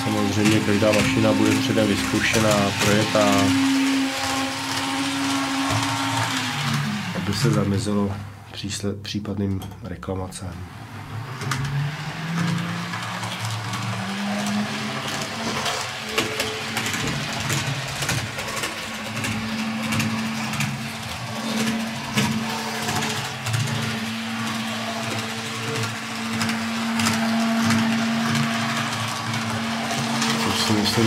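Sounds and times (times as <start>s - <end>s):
model train motor whine: 0.0s - 8.2s, 10.7s - 31.0s.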